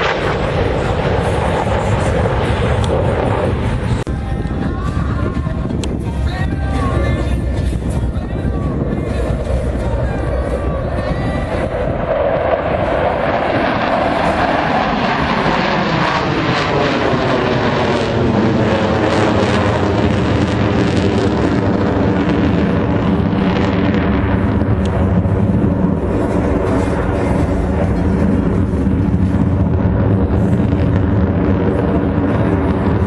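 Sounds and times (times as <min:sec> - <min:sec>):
airplane flying past: 0:00.0 - 0:33.0.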